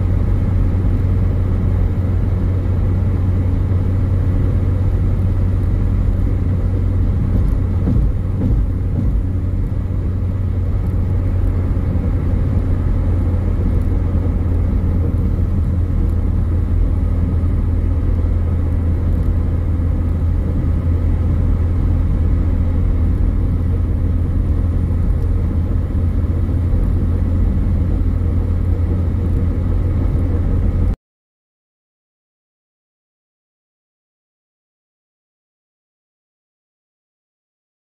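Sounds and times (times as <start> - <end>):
car driving on road: 0.0 - 31.0.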